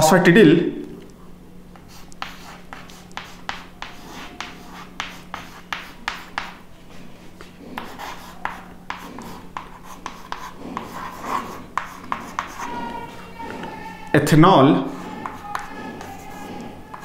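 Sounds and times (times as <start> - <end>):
chalk tapping and scratching: 1.8 - 14.1, 14.8 - 17.0.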